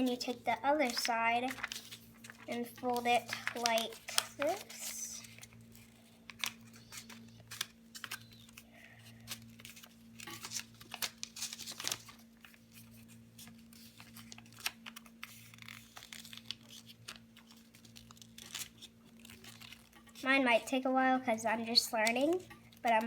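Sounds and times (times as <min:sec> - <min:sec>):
paper folding and crinkling: 0:00.0 - 0:20.8, 0:21.4 - 0:23.0
low electrical hum: 0:00.0 - 0:23.0.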